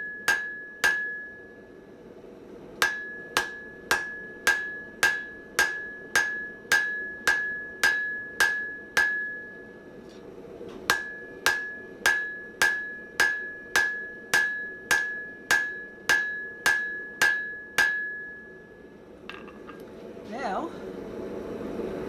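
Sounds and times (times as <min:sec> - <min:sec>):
hammer ringing on anvil: 0:00.0 - 0:01.7, 0:02.8 - 0:10.1, 0:10.9 - 0:19.6.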